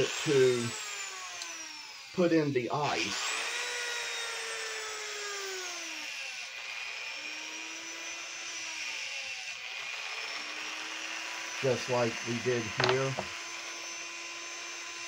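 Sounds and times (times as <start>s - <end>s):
rotary tool grinding wood: 0.0s - 15.0s.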